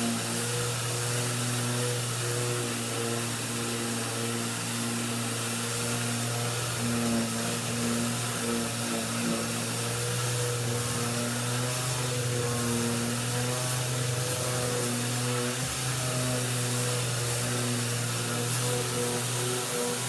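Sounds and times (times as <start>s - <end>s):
electric motor hissing and humming: 0.0s - 20.0s.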